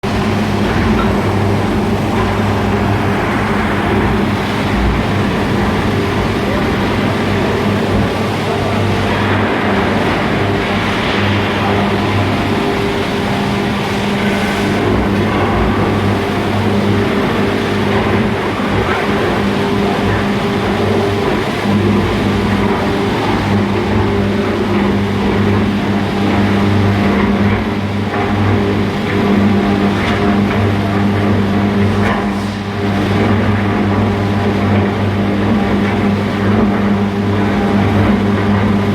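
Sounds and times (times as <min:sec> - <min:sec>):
furnace industrial noise: 0:00.0 - 0:38.9.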